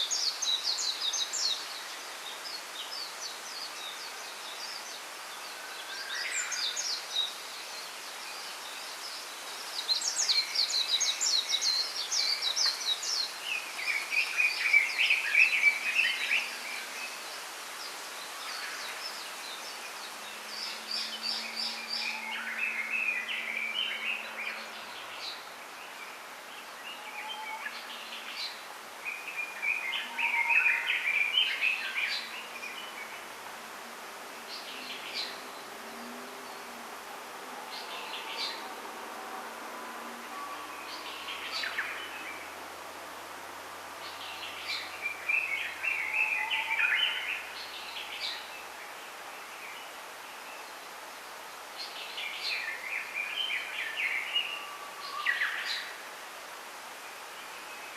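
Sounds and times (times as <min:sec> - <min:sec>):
songbirds twittering: 0:00.0 - 0:57.9
steady background hiss: 0:00.0 - 0:57.9.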